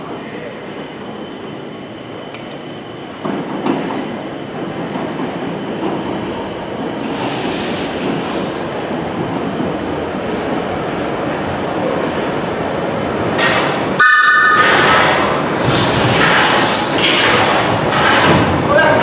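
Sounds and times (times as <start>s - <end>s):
train rumbling through tunnel: 0.0s - 19.0s.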